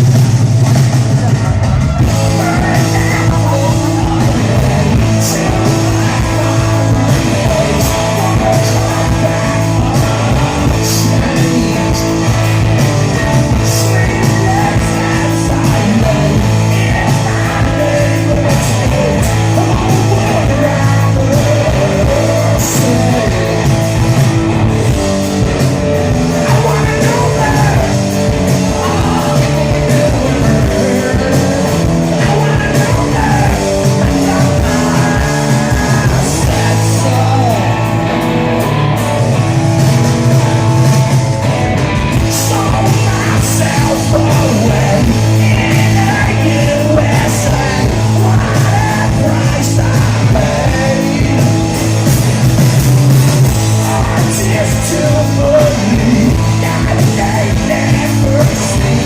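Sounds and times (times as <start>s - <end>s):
bass guitar: 0.0s - 59.0s
drums: 0.0s - 59.0s
electric guitars: 0.0s - 59.0s
person singing: 1.1s - 38.2s, 42.0s - 52.1s, 53.4s - 59.0s.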